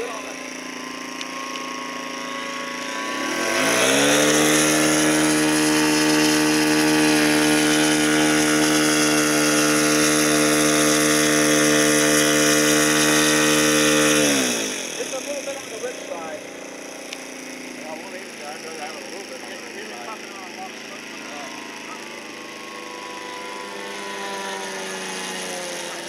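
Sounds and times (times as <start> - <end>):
model airplane engine droning: 0.0 - 26.0.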